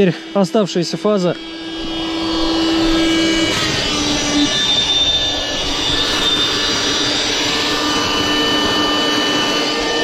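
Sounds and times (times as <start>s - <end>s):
electric air pump running: 0.0s - 10.0s.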